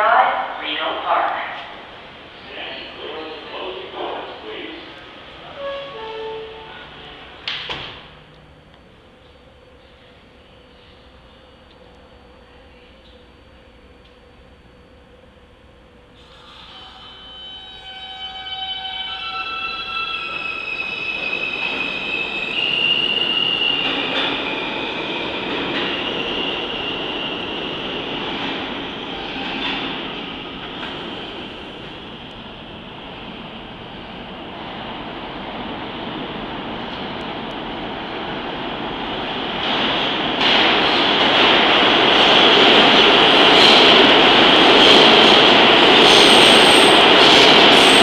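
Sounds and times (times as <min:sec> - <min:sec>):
rumble of wheels on rail: 0:00.0 - 0:48.0
subway train high whine: 0:00.0 - 0:48.0.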